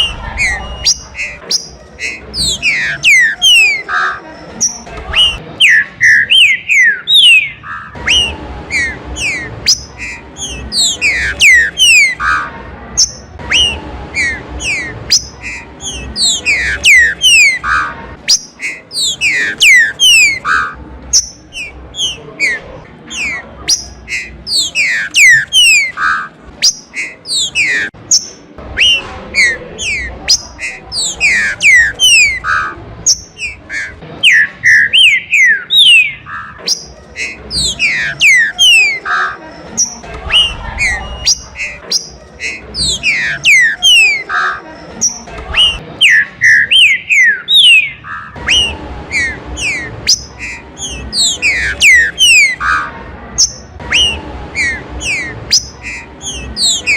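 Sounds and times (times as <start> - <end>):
birds singing whistled phrases: 0.0 - 56.9.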